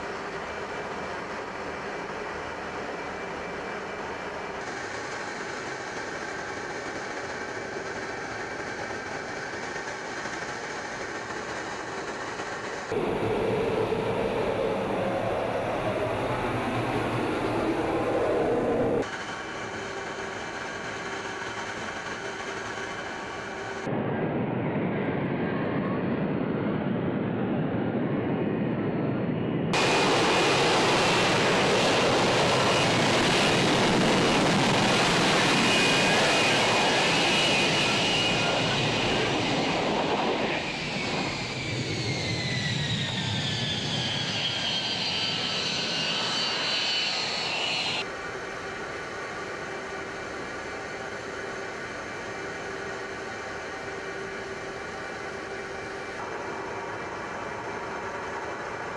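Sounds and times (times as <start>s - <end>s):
jet engine roar with whine: 0.0s - 58.9s.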